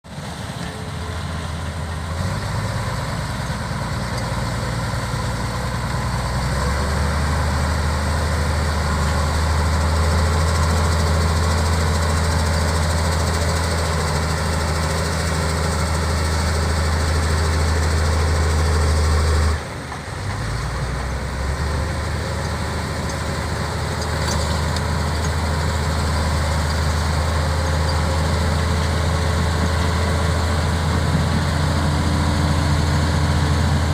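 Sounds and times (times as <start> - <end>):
bulldozer diesel engine drone: 0.0 - 33.9.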